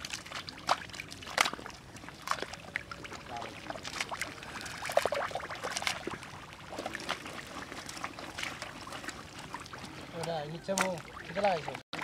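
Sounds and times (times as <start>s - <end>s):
small water splashes: 0.0s - 12.0s
trickling water: 0.0s - 12.0s.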